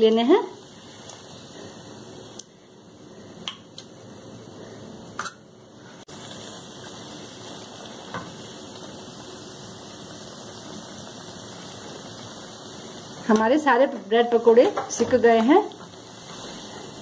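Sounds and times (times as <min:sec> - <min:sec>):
oil sizzling in frying pan: 0:00.0 - 0:17.0.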